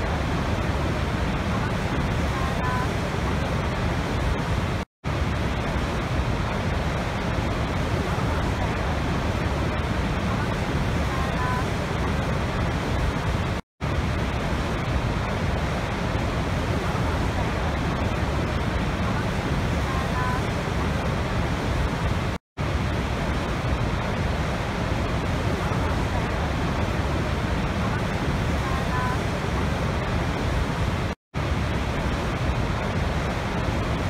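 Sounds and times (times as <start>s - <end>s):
churning rapids: 0.0s - 34.0s
waterfall rushing: 0.0s - 34.0s.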